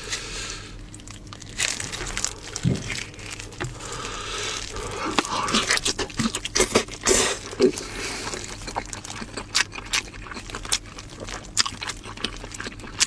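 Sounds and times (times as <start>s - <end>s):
crinkling and tearing: 0.8s - 13.0s.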